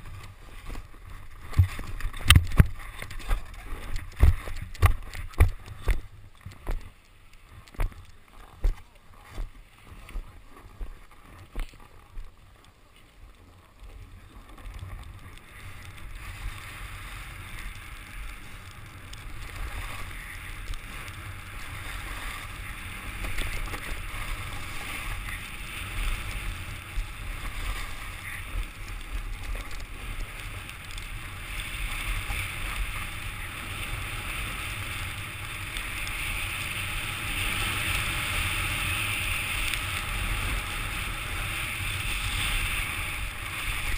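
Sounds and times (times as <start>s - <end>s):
skis scraping over snow: 0.0s - 43.9s.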